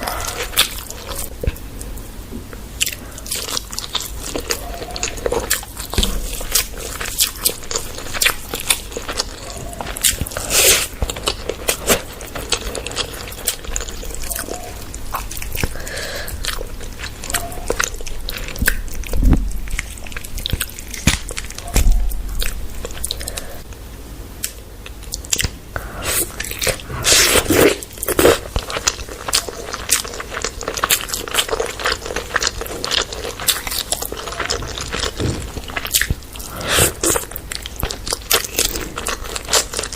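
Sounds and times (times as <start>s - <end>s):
food crunches: 2.8s - 23.4s, 24.4s - 39.9s
chewing and smacking: 2.8s - 23.5s, 24.4s - 39.9s.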